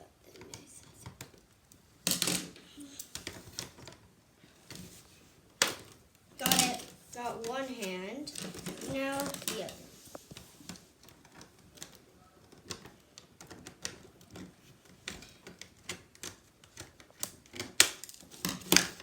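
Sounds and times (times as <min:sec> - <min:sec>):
plastic packaging clicks and crackles: 0:00.3 - 0:19.0.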